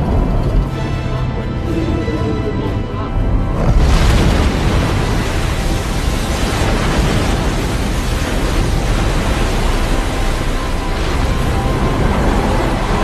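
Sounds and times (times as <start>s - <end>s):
heavy rushing spray and water: 1.5s - 13.0s
loud water crash: 1.7s - 13.0s.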